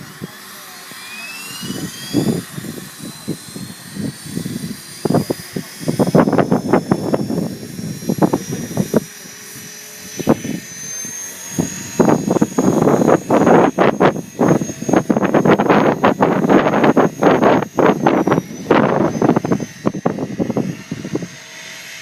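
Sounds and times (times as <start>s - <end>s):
rc helicopter motor whine: 0.0s - 22.0s
wind buffeting microphone: 1.6s - 21.4s.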